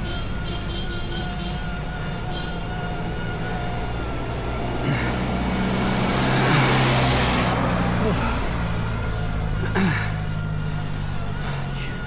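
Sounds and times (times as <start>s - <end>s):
passing motor vehicle: 1.9s - 12.0s.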